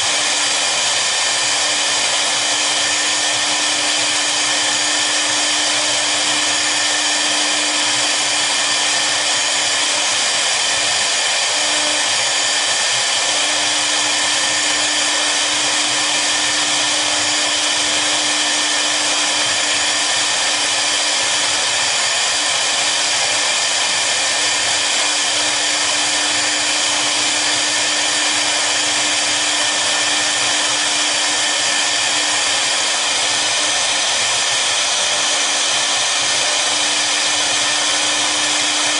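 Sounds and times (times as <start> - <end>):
router spindles whining: 0.0 - 38.9.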